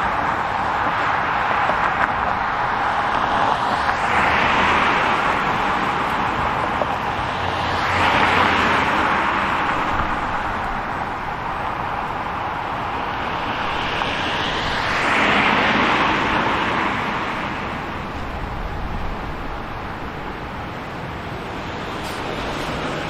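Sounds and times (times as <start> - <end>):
street traffic noise: 0.0 - 23.0
vehicle passing: 0.0 - 23.0.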